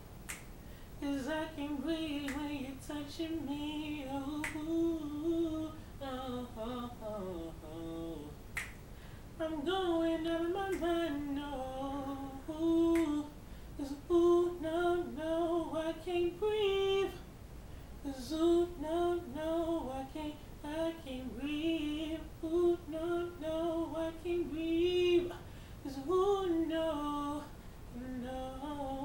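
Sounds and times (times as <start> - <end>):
young man singing unaccompanied: 1.0 - 8.4, 9.4 - 17.3, 18.0 - 29.0.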